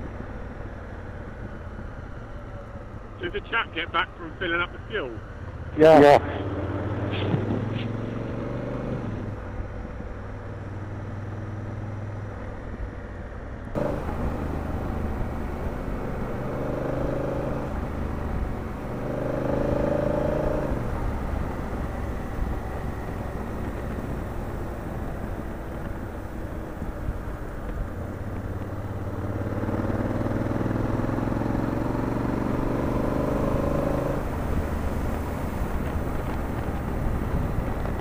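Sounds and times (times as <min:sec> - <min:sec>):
wind and road noise: 0:00.0 - 0:38.0
motorcycle engine accelerating: 0:05.5 - 0:12.4, 0:13.8 - 0:38.0.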